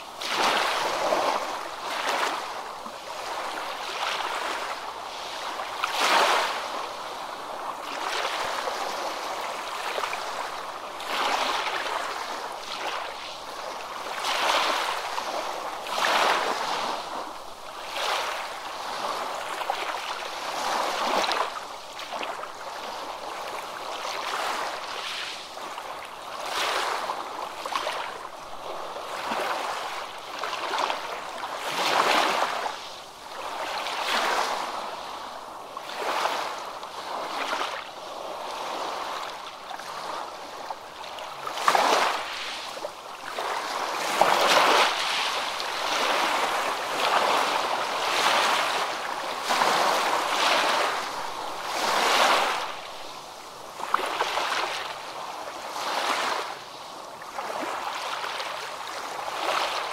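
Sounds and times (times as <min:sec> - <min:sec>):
ocean waves splashing: 0:00.0 - 0:59.9.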